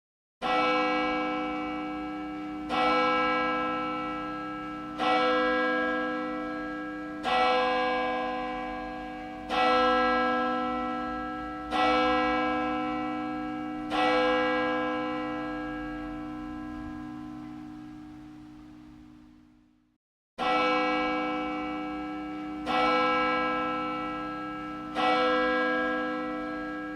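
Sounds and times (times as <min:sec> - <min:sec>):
church bell tolling: 0:00.4 - 0:26.9.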